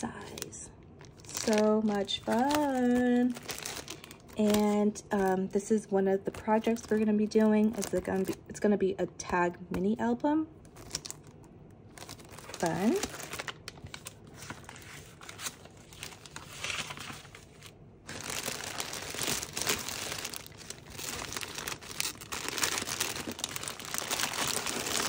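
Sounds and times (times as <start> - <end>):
packaging crinkling: 0.2 - 8.5, 10.6 - 25.0.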